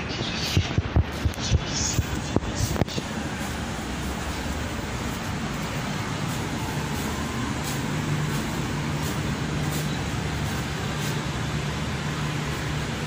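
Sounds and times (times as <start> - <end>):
road traffic: 0.0 - 13.0
low hum: 0.7 - 13.0.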